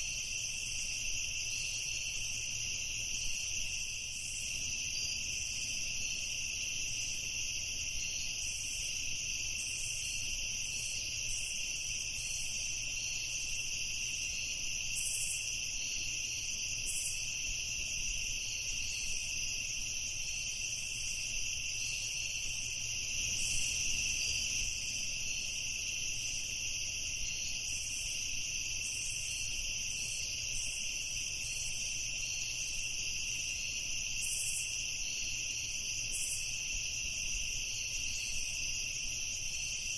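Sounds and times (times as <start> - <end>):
high insect chirps: 0.0 - 39.9
insects trilling: 0.0 - 39.9.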